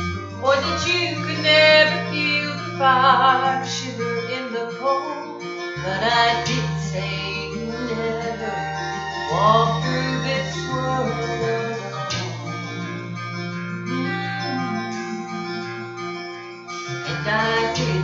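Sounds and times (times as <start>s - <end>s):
guitar and bass accompaniment: 0.0s - 18.0s
woman singing gospel with vibrato: 0.4s - 12.8s, 13.9s - 15.9s, 17.1s - 18.0s.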